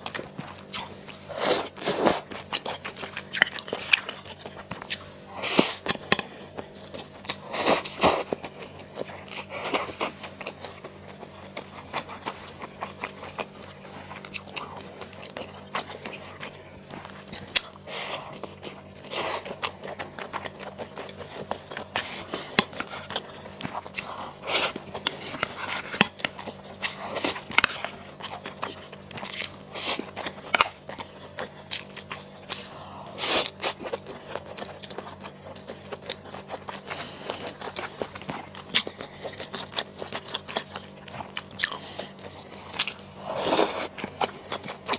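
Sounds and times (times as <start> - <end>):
crunchy bites and chewing: 0.0 - 44.9.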